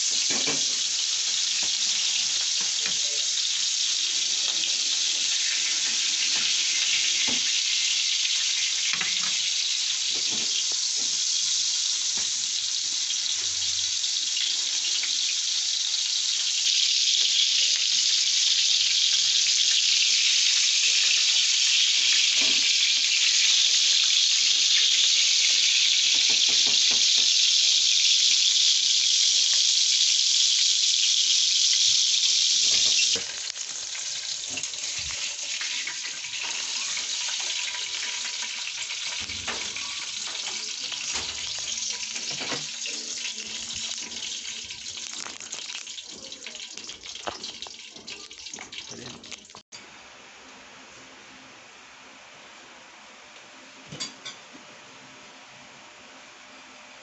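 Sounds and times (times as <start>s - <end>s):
burger patty sizzling in a pan: 0.0s - 49.7s.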